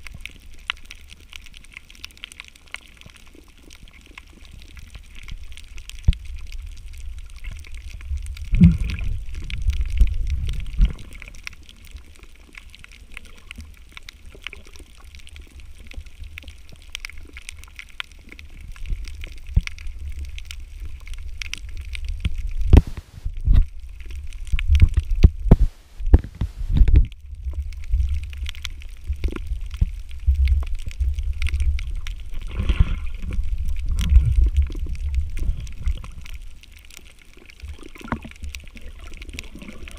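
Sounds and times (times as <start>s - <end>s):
muffled underwater water rumble: 0.0s - 39.9s
water gurgling: 0.0s - 39.9s.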